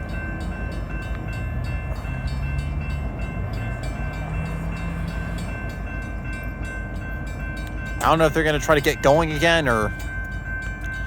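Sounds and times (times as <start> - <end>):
locomotive engines idling: 0.0 - 11.0.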